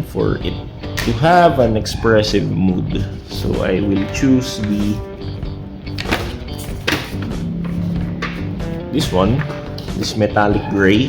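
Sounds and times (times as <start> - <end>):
instrumental music: 0.4 - 11.0.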